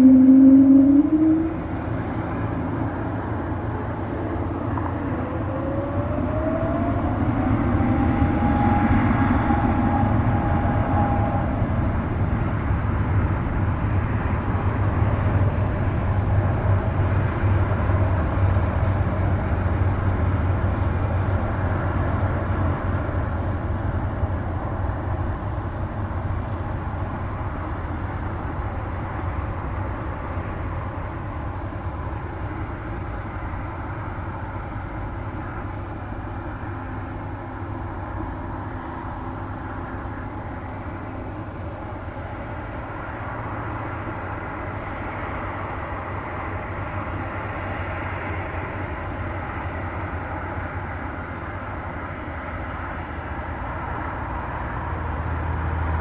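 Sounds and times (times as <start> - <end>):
jet engines deep rumble: 0.0 - 56.0.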